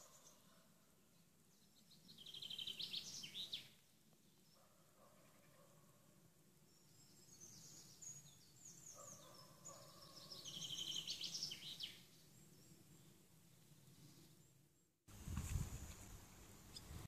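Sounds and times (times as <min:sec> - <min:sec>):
songbirds chirping and trilling: 0:00.0 - 0:14.9.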